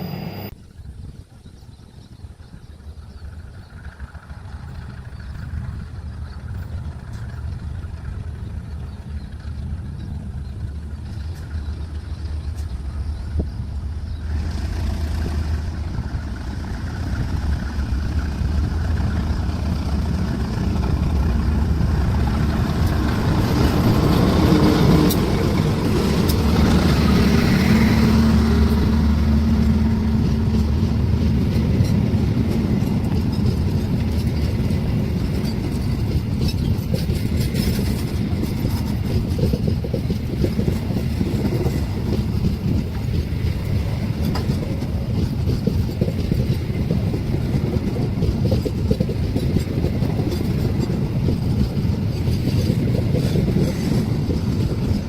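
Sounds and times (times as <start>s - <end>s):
train rumbling past: 0.0s - 1.1s, 2.0s - 55.0s
train engine hum: 0.0s - 55.0s.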